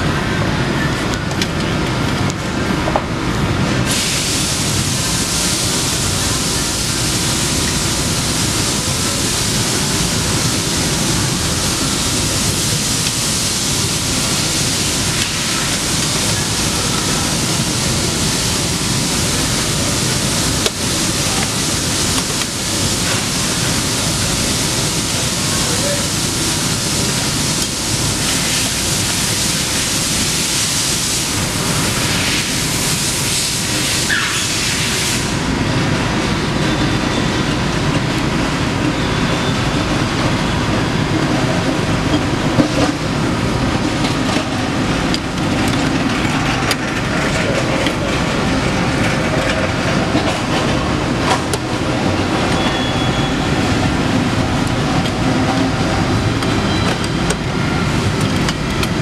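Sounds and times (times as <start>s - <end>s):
industrial shop din: 0.0s - 59.0s.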